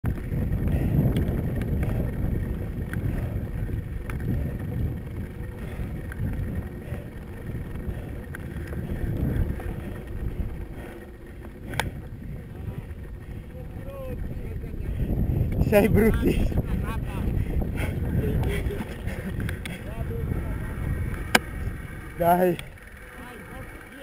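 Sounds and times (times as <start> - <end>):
bike tyres rumbling on gravel: 0.0 - 24.0
wind buffeting microphone: 0.0 - 24.0
bike clicks and rattles: 0.1 - 24.0.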